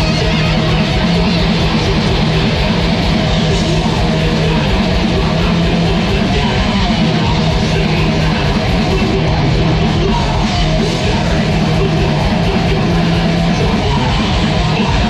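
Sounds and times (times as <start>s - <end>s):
live thrash metal band: 0.0s - 15.0s.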